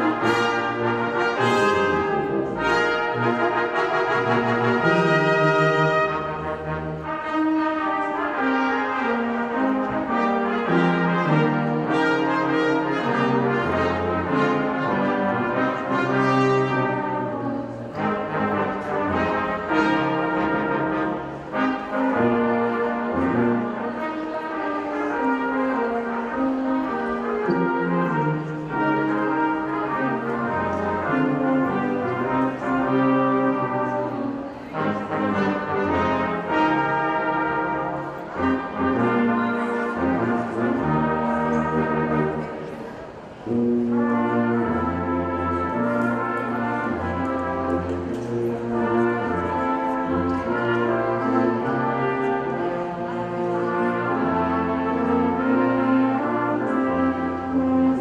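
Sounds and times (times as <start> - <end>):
brass ensemble playing chords: 0.0 - 58.0.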